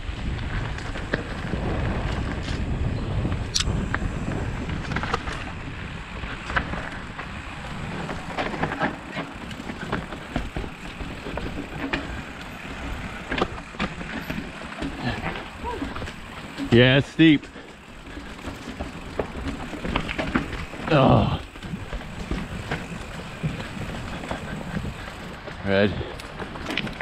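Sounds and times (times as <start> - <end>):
bike knocking and rattling: 0.0 - 27.0
bike tyres rolling on dirt and rocks: 0.0 - 27.0
wind rumbling on microphone: 0.0 - 27.0.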